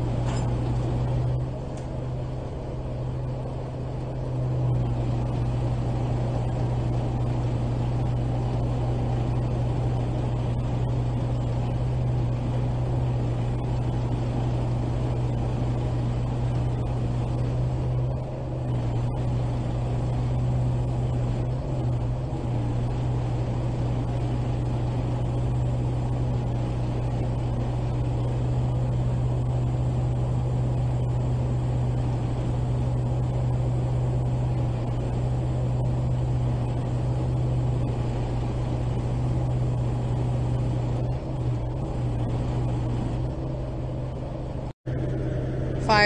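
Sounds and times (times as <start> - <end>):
truck engine humming: 0.0 - 46.0.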